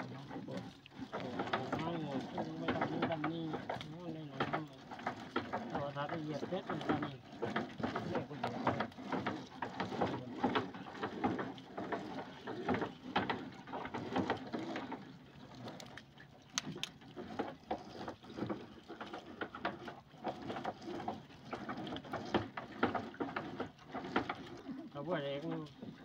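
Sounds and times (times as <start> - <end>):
water splashing: 0.0 - 26.0.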